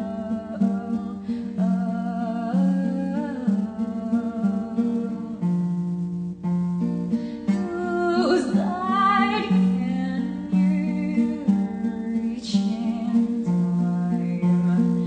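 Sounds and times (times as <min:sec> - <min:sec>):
person singing: 0:00.0 - 0:05.8, 0:07.4 - 0:15.0
acoustic guitar: 0:00.0 - 0:15.0.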